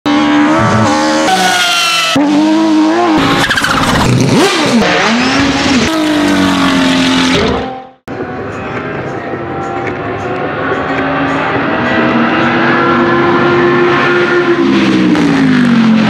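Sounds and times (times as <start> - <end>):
racing car engines revving: 0.1 - 16.0.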